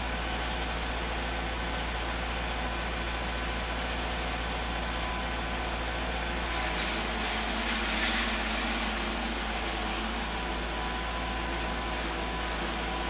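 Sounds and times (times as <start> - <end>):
truck engine rumbling with whine: 0.0 - 13.0.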